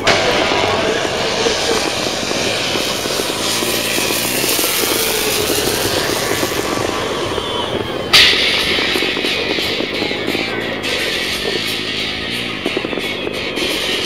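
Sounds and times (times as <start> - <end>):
motor vehicle engines: 0.0 - 14.0.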